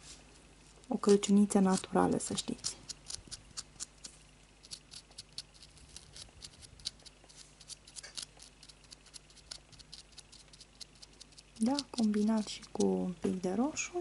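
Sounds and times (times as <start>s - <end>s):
marker tip clicking and scratching: 1.1s - 12.9s.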